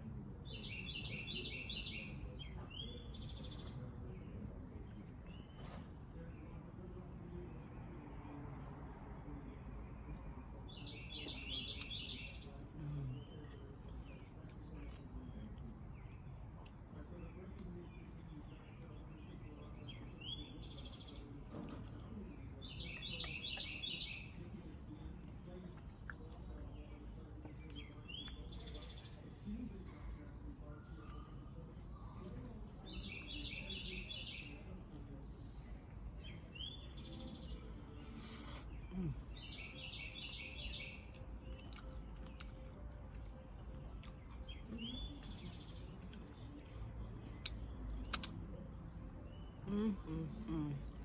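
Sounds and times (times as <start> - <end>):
low steady background noise: 0.0 - 51.0
outdoor background noise: 0.0 - 51.0
songbirds singing: 0.0 - 51.0.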